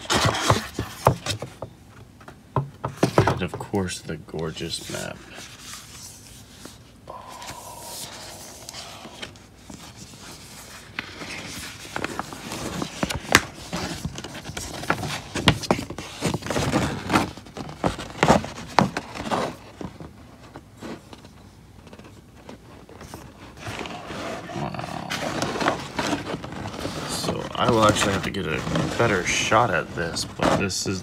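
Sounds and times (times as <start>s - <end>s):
paper map rustling and crinkling: 3.0s - 31.0s.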